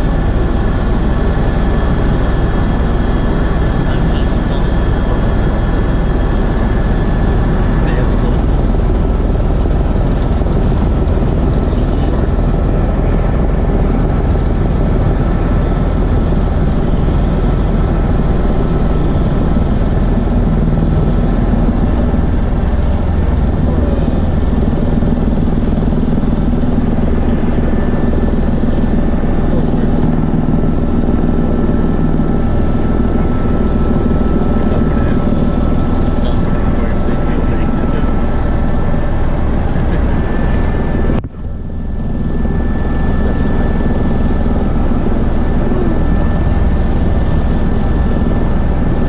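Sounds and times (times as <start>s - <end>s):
faint steady whine: 0.0s - 49.0s
helicopter engine and rotor noise: 0.0s - 49.0s.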